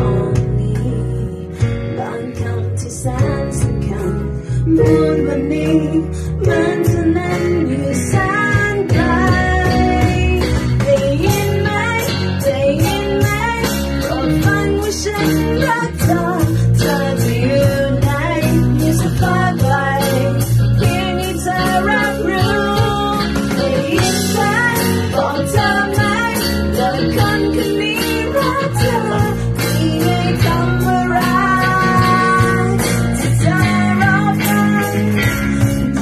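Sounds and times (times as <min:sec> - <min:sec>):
deep bass line: 0:00.0 - 0:36.0
digital piano: 0:00.0 - 0:36.0
electric guitars: 0:00.0 - 0:36.0
person singing: 0:00.0 - 0:36.0.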